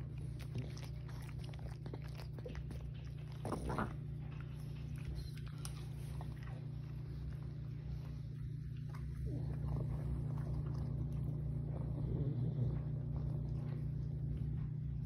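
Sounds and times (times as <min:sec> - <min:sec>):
dog breathing and snuffling: 0:00.0 - 0:15.0
steady low hum: 0:00.0 - 0:15.0.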